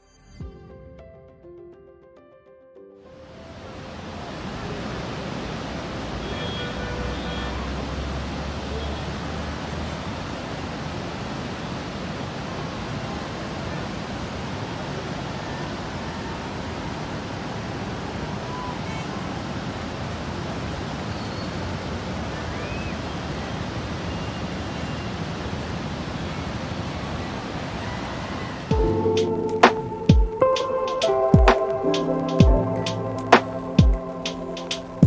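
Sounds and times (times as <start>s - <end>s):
floodwater rushing through spillway: 3.4s - 35.0s.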